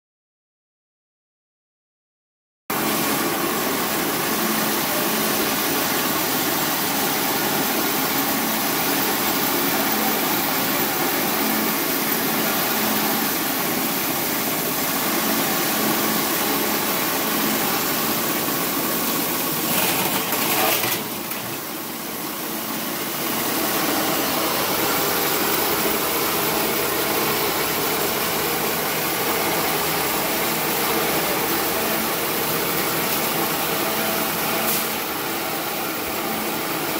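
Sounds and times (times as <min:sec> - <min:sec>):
rice milling machine running: 0:02.7 - 0:36.9.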